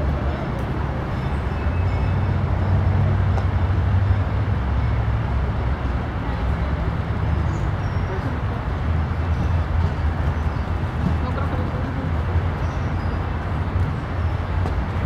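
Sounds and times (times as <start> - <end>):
low rumble of outdoor background noise: 0.0 - 15.0.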